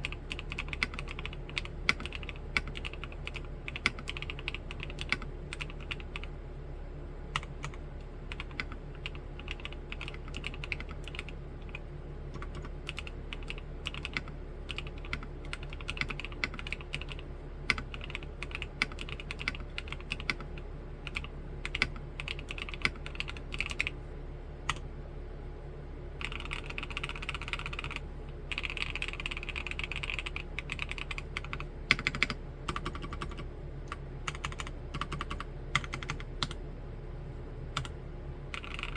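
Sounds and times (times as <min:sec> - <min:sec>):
mechanical keyboard typing: 0:00.0 - 0:06.3, 0:07.4 - 0:24.0, 0:26.2 - 0:36.6, 0:38.5 - 0:38.9.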